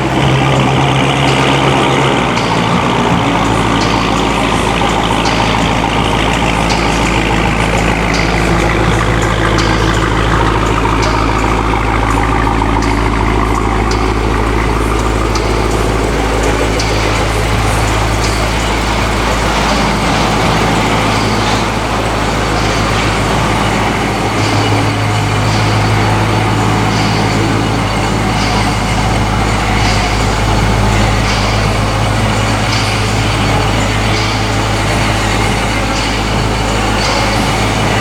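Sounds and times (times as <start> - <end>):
engine droning: 0.0 - 38.0
faint regular ticking: 0.0 - 38.0.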